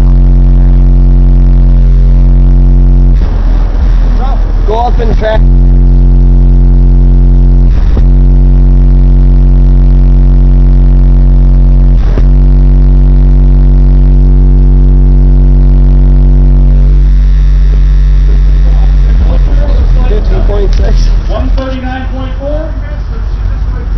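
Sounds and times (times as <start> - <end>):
car subwoofers playing low bass tone: 0.0 - 23.9.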